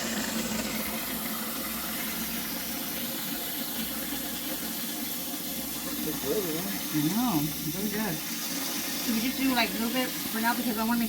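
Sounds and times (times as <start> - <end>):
water running into fish tank: 0.0 - 11.0.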